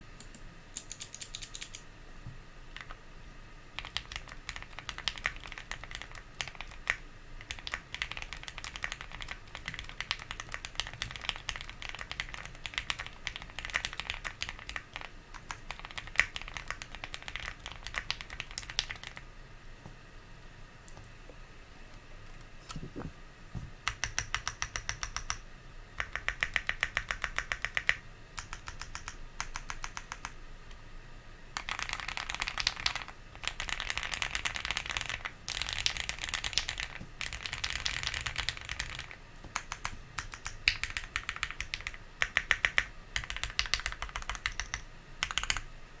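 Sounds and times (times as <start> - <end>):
mechanical keyboard typing: 0.2 - 1.8, 2.8 - 3.0, 3.8 - 19.2, 23.8 - 25.4, 26.0 - 30.4, 31.6 - 45.7.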